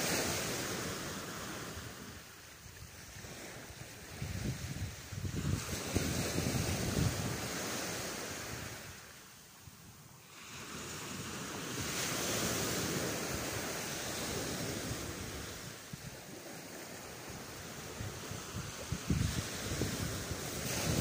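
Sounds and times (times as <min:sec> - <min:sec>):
wind buffeting microphone: 0:00.0 - 0:09.0, 0:11.0 - 0:21.0
waves washing on shingle: 0:00.0 - 0:09.1, 0:10.3 - 0:21.0.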